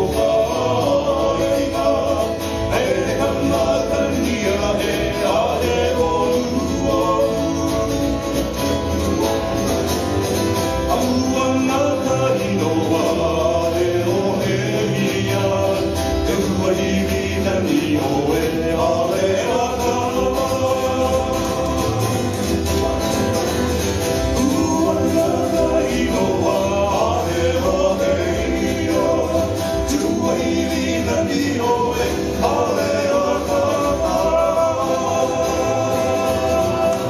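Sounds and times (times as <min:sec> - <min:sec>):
men singing together: 0:00.0 - 0:09.6, 0:10.8 - 0:23.1, 0:24.1 - 0:37.0
acoustic guitars: 0:00.0 - 0:37.0
upright bass: 0:00.0 - 0:37.0.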